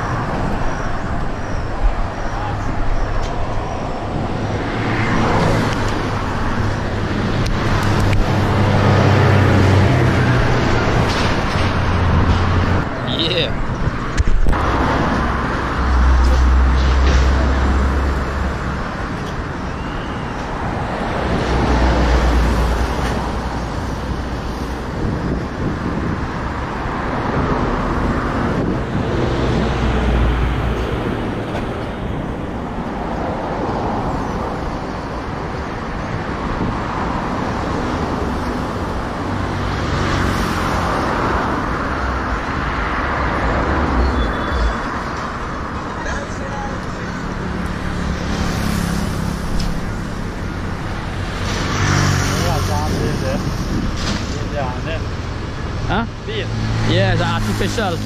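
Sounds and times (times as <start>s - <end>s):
deep rumbles of big vehicles: 0.0s - 58.0s
vehicles passing: 0.0s - 58.0s.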